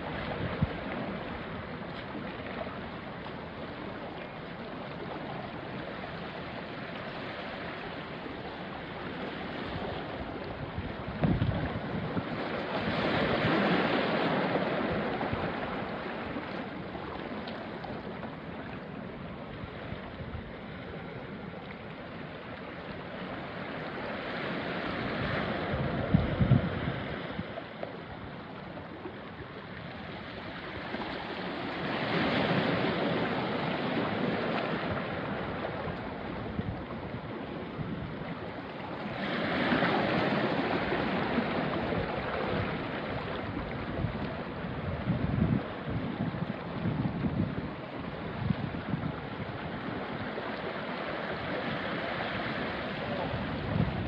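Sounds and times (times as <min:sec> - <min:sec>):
waves washing onto rocky shore: 0:00.0 - 0:54.0.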